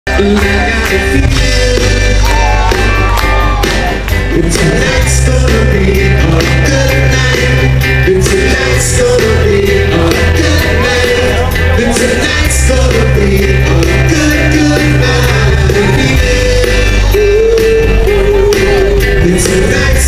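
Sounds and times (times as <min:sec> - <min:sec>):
live band through pa: 0:00.1 - 0:20.0
person singing: 0:00.1 - 0:20.0.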